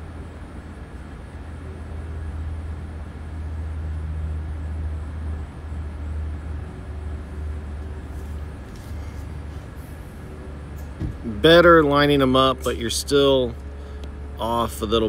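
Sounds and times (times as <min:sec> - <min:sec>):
faint constant hum: 0:00.0 - 0:15.0
steady low rumble: 0:00.0 - 0:15.0.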